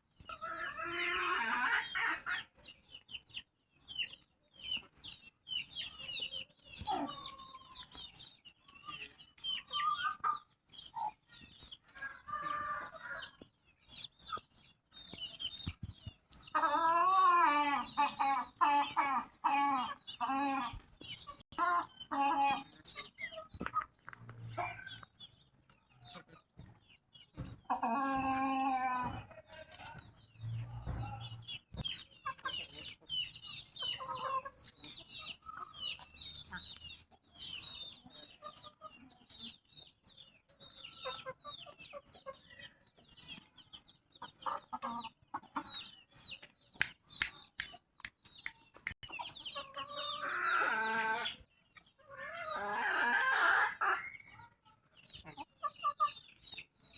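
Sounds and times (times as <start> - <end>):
chickens clucking: 0.0 - 56.9
chicks peeping: 0.0 - 56.9.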